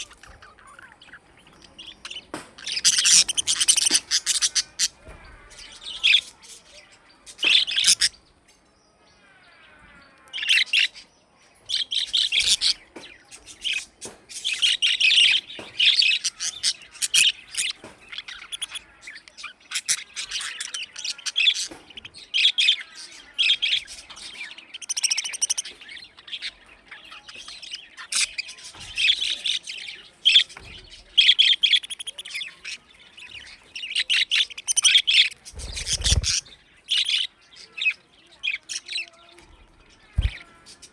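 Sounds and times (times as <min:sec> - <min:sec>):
budgies chirping: 0:00.0 - 0:40.9.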